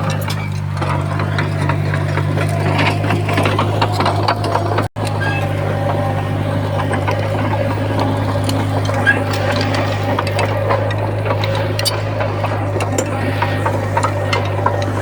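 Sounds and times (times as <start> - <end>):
bulldozer diesel engine running: 0.0 - 15.0
clanks and knocks of tracks: 0.0 - 15.0.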